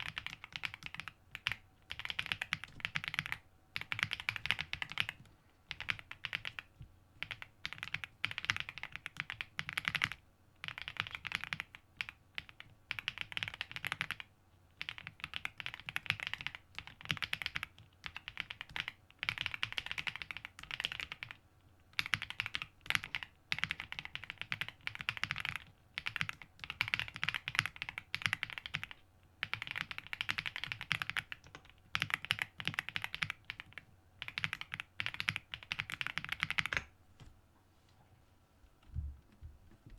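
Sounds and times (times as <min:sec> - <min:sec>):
mechanical keyboard typing: 0:00.0 - 0:21.4, 0:22.0 - 0:36.9.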